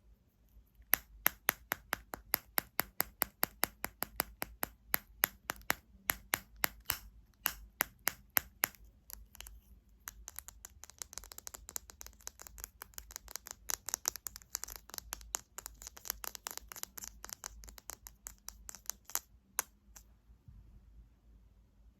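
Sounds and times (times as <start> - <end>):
fingernails tapping on hard objects: 0.9 - 19.3.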